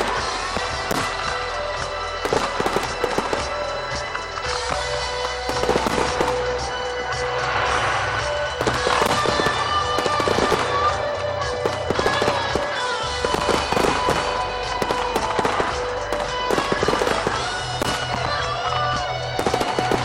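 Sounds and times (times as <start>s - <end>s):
fireworks crackling and popping: 0.0s - 20.0s
music playing: 0.0s - 20.0s.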